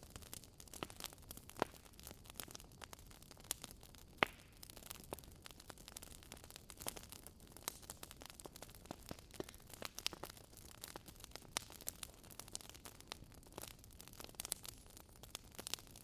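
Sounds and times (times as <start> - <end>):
faint steady hiss: 0.0 - 16.0
fire crackling and popping: 0.0 - 16.0.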